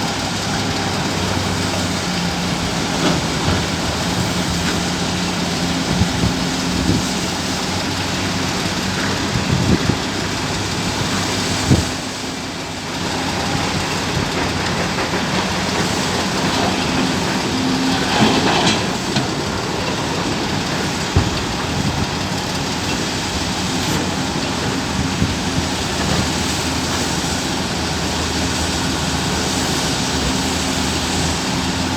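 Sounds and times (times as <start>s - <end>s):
heavy diesel engines running: 0.0s - 31.9s.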